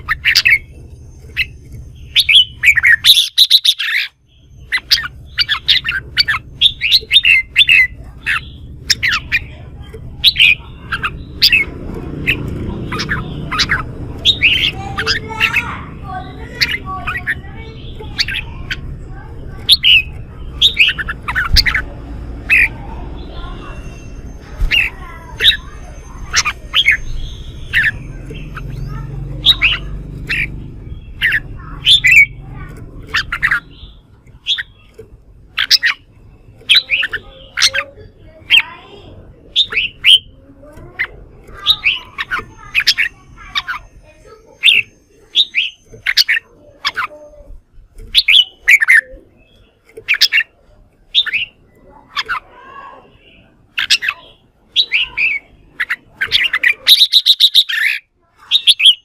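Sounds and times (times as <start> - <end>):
birds calling excitedly: 0.0 - 59.0.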